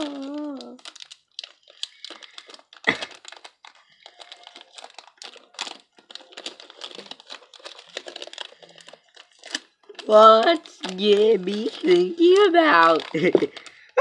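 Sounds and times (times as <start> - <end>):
candy wrapper crinkling: 0.0 - 14.0
wrapper tearing: 0.0 - 14.0.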